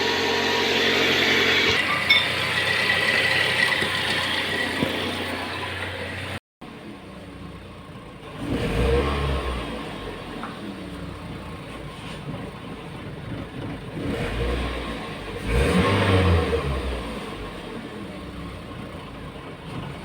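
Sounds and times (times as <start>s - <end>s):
car engine revving: 0.0s - 11.6s, 13.2s - 19.3s.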